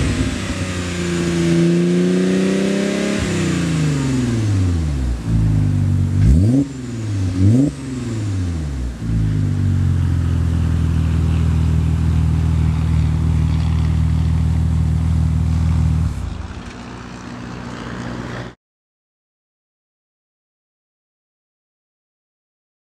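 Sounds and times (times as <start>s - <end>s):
engine running at steady speed: 0.0s - 18.6s
engine throttle blips: 0.0s - 18.6s.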